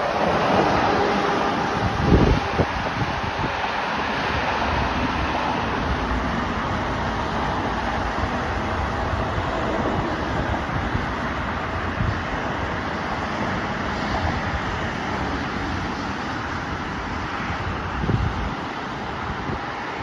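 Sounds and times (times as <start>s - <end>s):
highway traffic: 0.0s - 20.0s
wind buffeting microphone: 0.0s - 20.0s.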